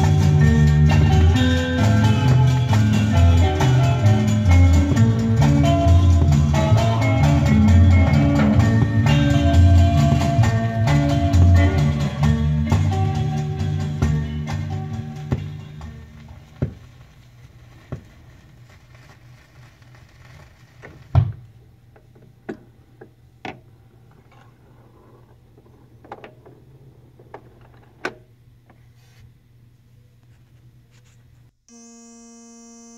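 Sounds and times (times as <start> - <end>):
vinyl surface noise: 0.0 - 23.0, 23.7 - 31.6.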